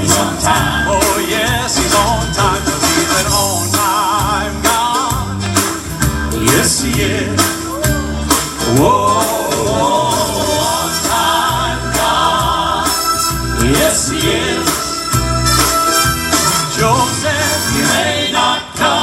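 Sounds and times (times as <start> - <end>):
gospel choir singing: 0.0 - 19.0
instrumental backing with beat: 0.0 - 19.0.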